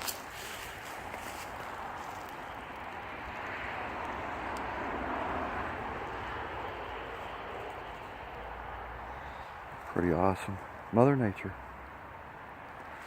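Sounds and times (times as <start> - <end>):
vehicles passing on highway: 0.0 - 13.0.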